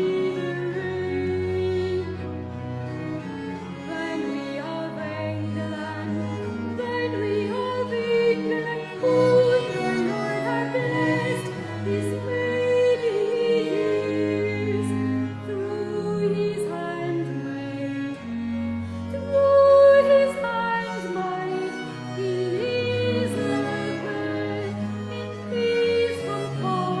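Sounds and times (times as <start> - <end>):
viols playing slow polyphonic music: 0.0 - 27.0.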